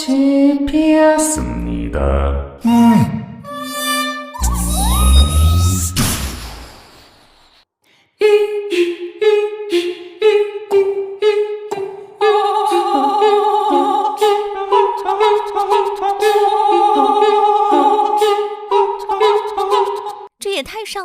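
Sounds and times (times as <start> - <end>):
voices singing a cappella: 0.0 - 5.9, 8.2 - 20.3.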